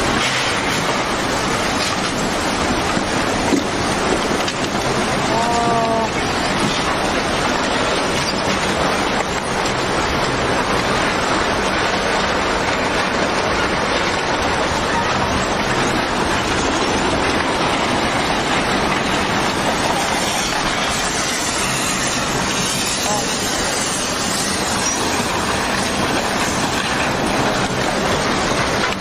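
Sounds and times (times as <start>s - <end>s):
flood water rushing: 0.0s - 29.0s.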